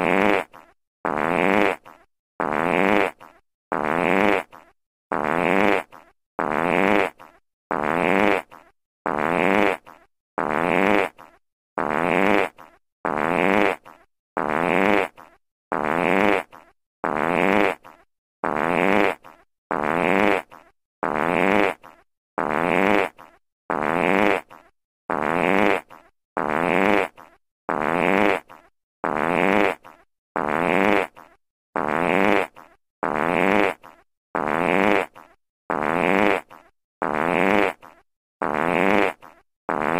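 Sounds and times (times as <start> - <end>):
fart sound effect: 0.0 - 39.9.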